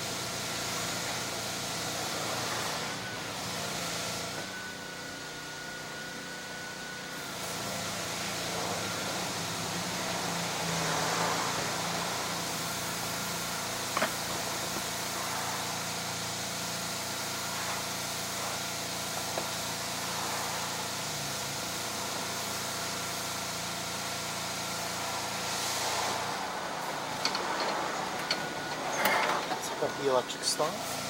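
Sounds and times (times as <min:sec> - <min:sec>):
small gasoline engine running: 0:00.0 - 0:31.0.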